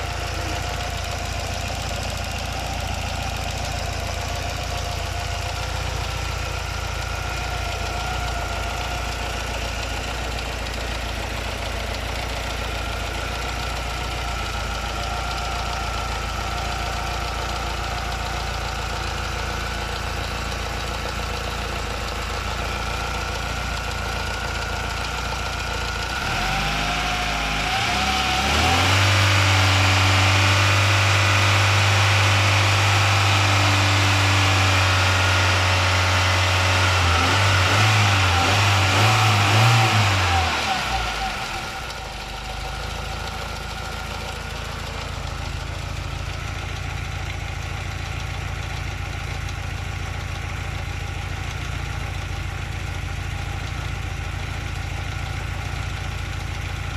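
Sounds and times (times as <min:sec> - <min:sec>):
engine grinding noise: 0:00.0 - 0:46.8
car engine idling and revving: 0:00.0 - 0:56.9.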